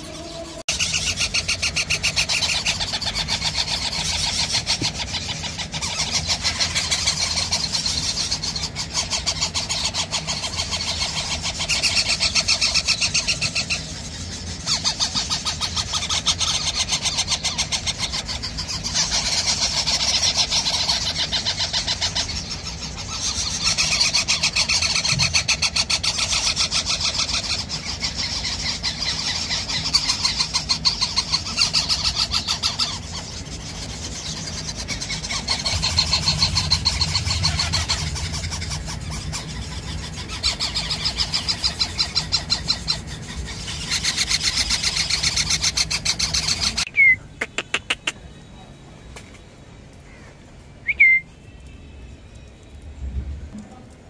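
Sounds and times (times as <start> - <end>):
parakeet chick begging calls: 0.0 - 48.2.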